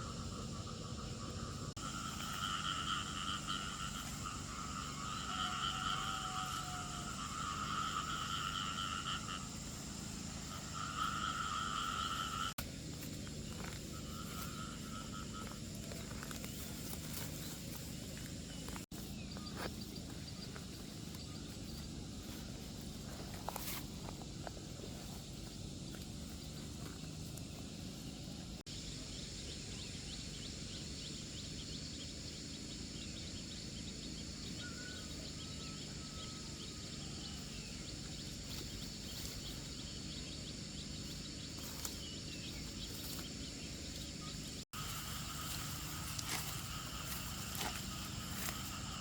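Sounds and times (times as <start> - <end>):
animal pulsing trill: 0.0 - 28.6, 29.2 - 49.0.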